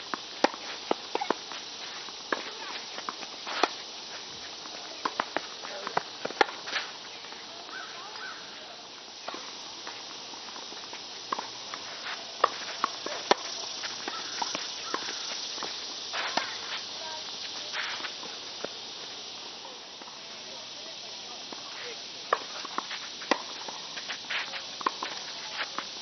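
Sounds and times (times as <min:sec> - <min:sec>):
outdoor hiss: 0:00.0 - 0:26.0
racquets striking tennis ball: 0:00.1 - 0:07.8, 0:09.2 - 0:18.8, 0:22.2 - 0:26.0
footsteps on court: 0:00.4 - 0:08.3, 0:09.2 - 0:19.2, 0:21.4 - 0:26.0.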